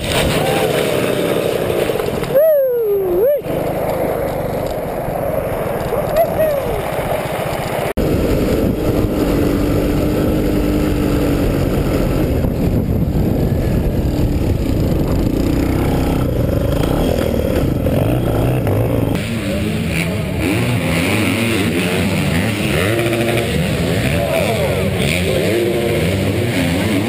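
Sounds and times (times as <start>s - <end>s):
dirt bike engine revving: 0.0s - 2.3s, 3.2s - 27.0s.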